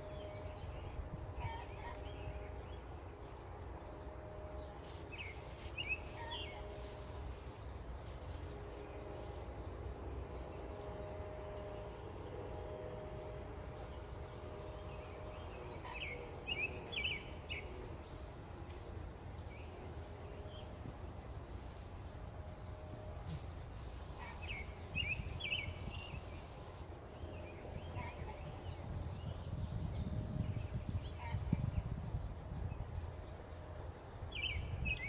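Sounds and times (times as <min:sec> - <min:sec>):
low outdoor rumble: 0:00.0 - 0:35.0
songbird chirping: 0:00.0 - 0:35.0.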